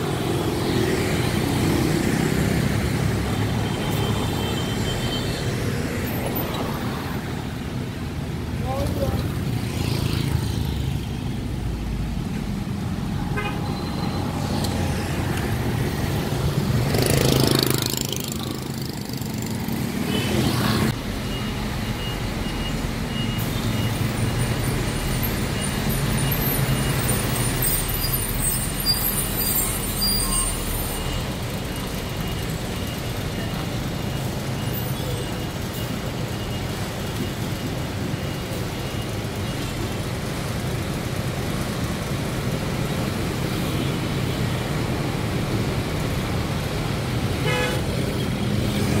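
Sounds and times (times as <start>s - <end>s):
traffic engine rumble: 0.0s - 49.0s.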